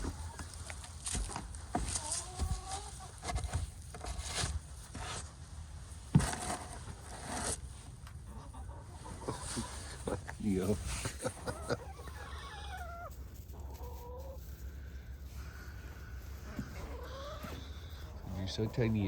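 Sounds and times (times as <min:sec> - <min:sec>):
hens clucking: 0:00.0 - 0:04.5, 0:06.2 - 0:19.0.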